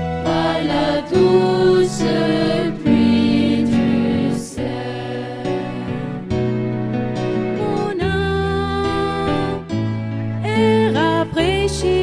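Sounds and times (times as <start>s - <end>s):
women's choir singing a hymn: 0.0s - 9.7s
organ accompaniment: 0.0s - 10.9s.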